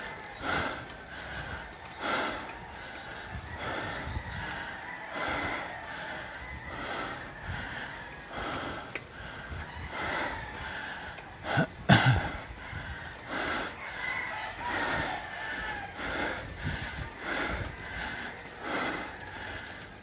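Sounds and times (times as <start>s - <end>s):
rooster crowing: 0.0s - 11.8s, 12.4s - 20.0s
soft footsteps on pavement: 0.0s - 20.0s.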